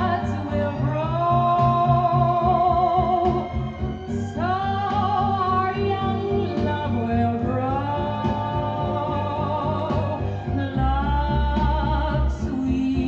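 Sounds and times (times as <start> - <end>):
orchestral accompaniment: 0.0 - 13.0
woman singing pop ballad: 0.0 - 13.0.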